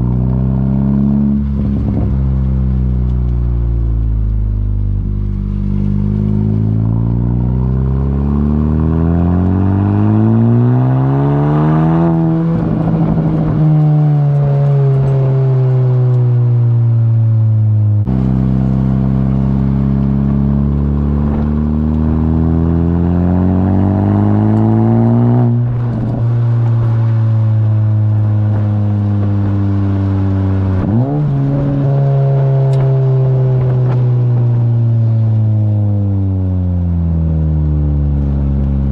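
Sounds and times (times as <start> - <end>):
car engine accelerating: 0.0 - 38.9
exhaust note climbing: 0.0 - 38.9.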